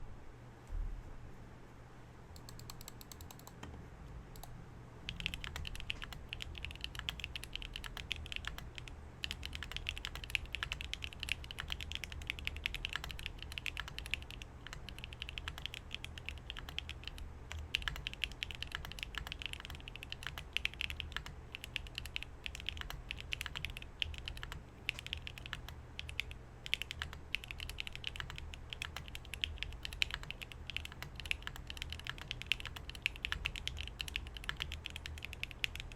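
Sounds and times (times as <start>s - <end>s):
mechanical keyboard typing clatter: 2.4s - 3.7s, 5.1s - 35.9s.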